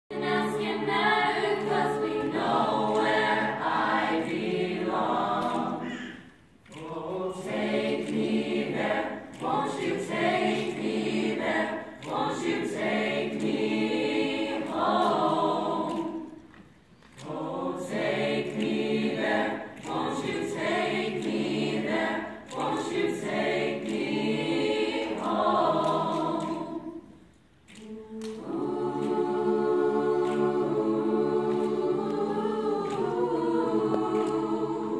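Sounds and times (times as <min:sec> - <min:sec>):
choir singing in harmony: 0:00.1 - 0:34.9.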